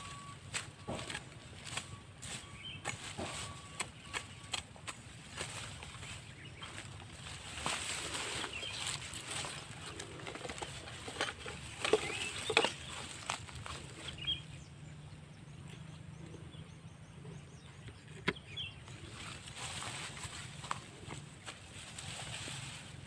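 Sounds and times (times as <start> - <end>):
rustling grass and snapping twigs: 0.0 - 16.5, 17.9 - 23.0
bird chirps: 0.0 - 21.6.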